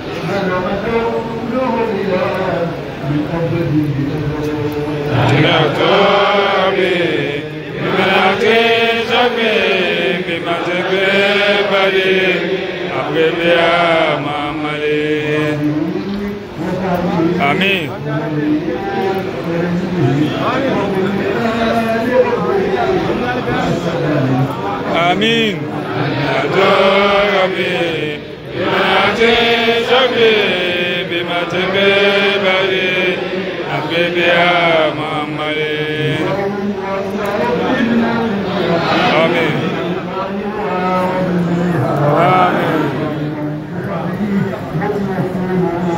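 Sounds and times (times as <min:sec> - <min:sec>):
man chanting a prayer: 0:00.2 - 0:45.9.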